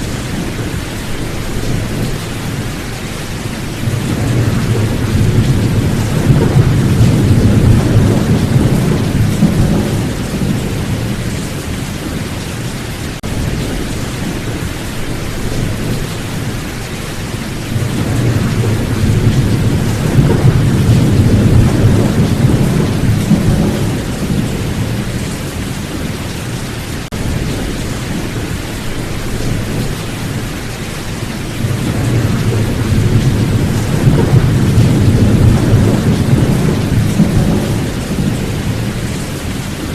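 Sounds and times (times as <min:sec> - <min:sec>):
rolling thunder: 0:00.0 - 0:12.4, 0:13.2 - 0:39.9
steady rain: 0:00.0 - 0:39.9.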